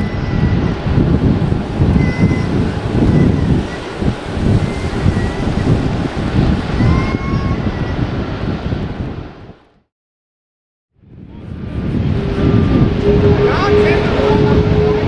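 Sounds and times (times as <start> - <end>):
jet engines rumbling: 0.0 - 9.6, 11.1 - 15.0
wind on microphone: 0.0 - 9.9, 11.0 - 15.0.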